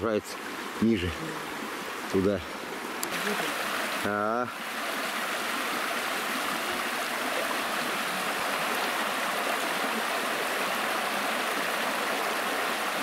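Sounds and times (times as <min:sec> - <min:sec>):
river rushing over riffle: 0:00.0 - 0:13.0.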